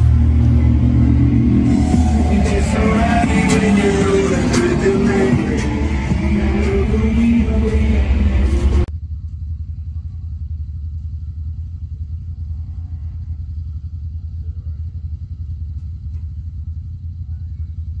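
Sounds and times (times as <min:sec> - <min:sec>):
utility vehicle engine idling: 0:00.0 - 0:18.0.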